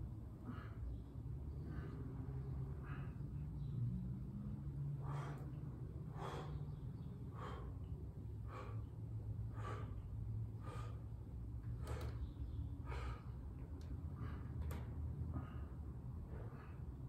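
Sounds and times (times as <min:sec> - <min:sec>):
man breathing hard: 0:00.0 - 0:17.0
steady low hum: 0:00.0 - 0:17.0.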